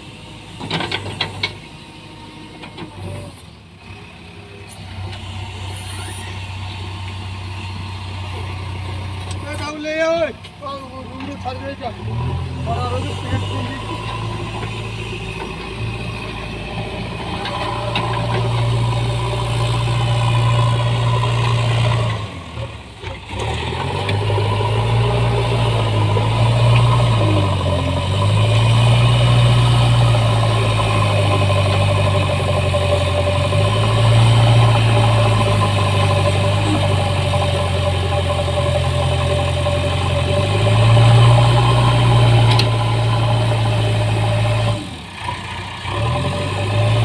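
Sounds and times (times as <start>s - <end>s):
diesel engine revving: 0.0s - 47.0s.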